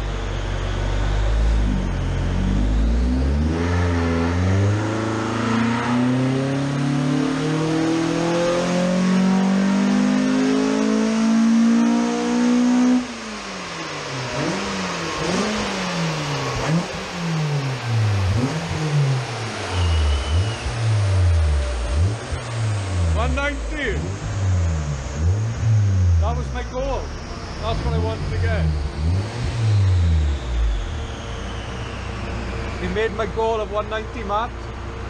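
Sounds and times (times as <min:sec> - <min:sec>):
car engine revving on dyno: 0:00.0 - 0:35.0.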